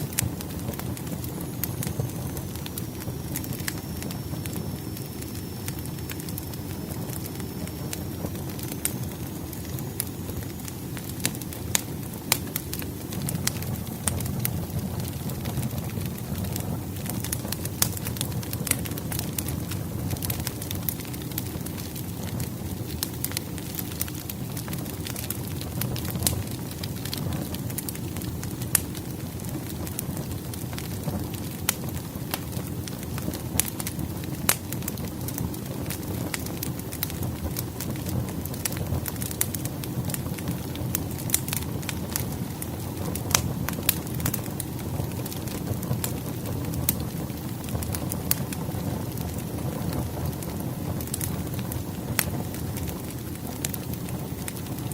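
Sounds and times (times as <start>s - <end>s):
firewood crackles and pops: 0.0s - 54.9s
low rush of flame: 0.0s - 54.9s.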